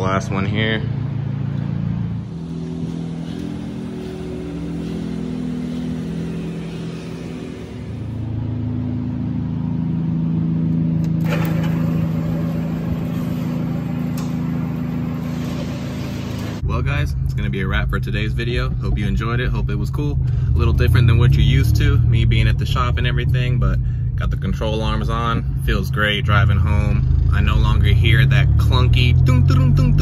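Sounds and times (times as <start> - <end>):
car engine hum from inside: 0.5 - 30.0.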